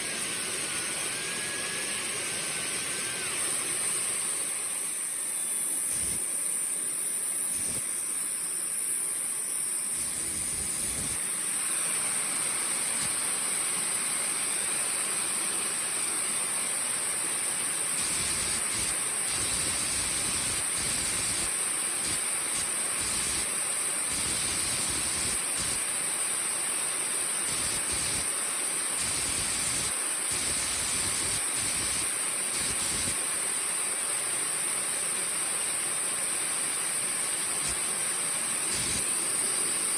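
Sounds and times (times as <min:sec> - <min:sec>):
turbojet engine rushing and whining: 0:00.0 - 0:39.9.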